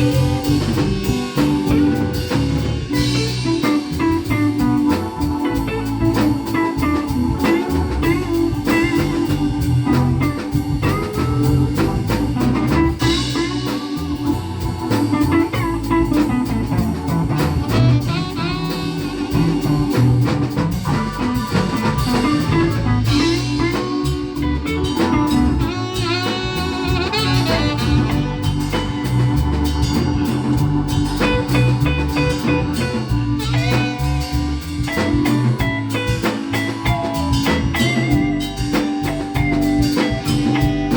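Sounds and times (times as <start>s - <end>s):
blues band playing: 0.0s - 40.9s.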